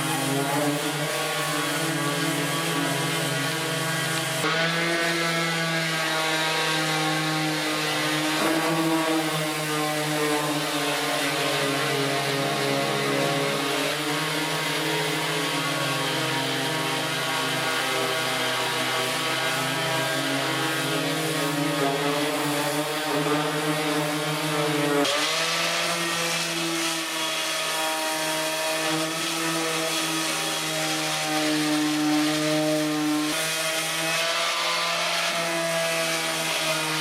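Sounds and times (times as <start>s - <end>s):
power tool motor running: 0.0s - 37.0s.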